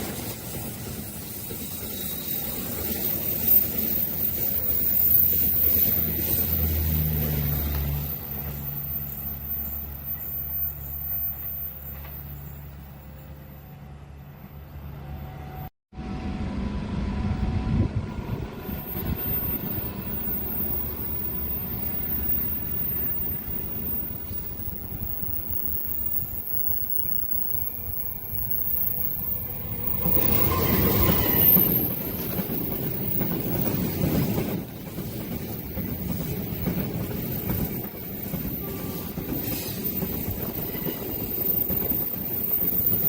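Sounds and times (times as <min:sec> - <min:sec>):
train passing rumble: 0:00.0 - 0:43.0.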